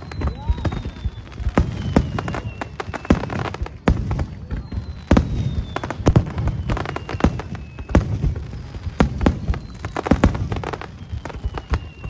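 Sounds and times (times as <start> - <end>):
fireworks bangs and crackles: 0.0 - 12.0
fireworks falling whistles: 0.0 - 12.0.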